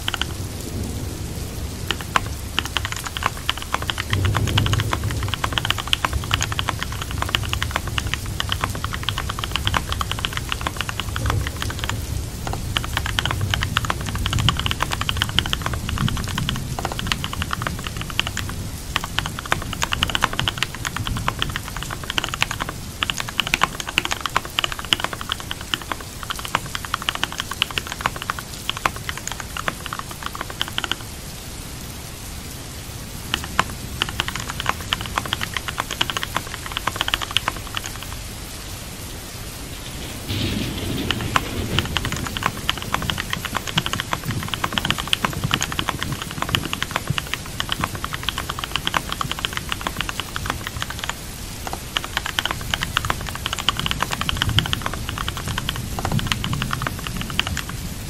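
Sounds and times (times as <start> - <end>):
keyboard typing: 0.0 - 0.4, 1.8 - 31.1, 33.3 - 38.3, 40.3 - 57.8
steady rain: 0.0 - 58.0.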